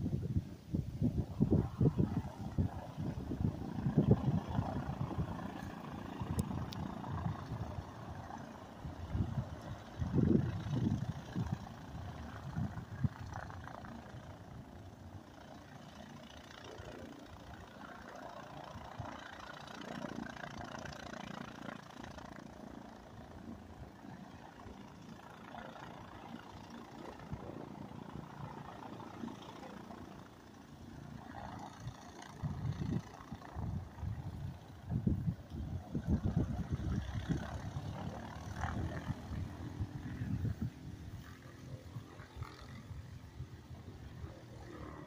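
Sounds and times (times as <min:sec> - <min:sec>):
distant plane engine idling: 0:00.0 - 0:45.0.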